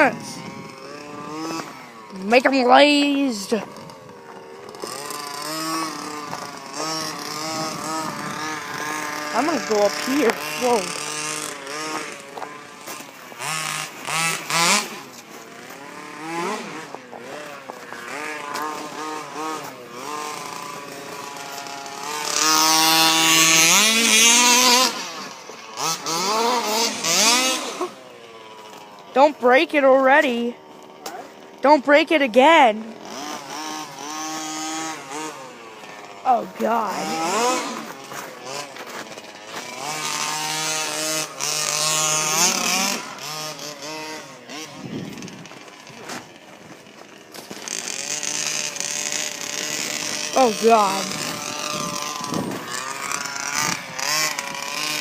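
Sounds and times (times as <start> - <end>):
small two-stroke engine revving: 0.0 - 55.0.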